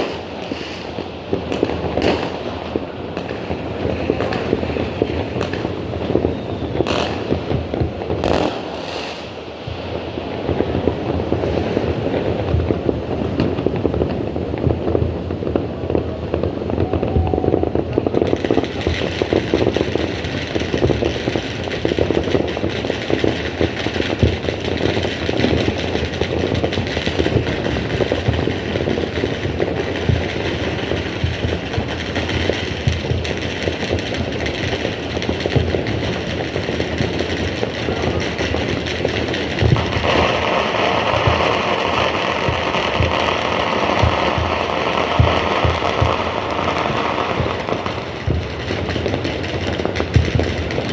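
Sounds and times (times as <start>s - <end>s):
fireworks exploding: 0.0s - 50.9s.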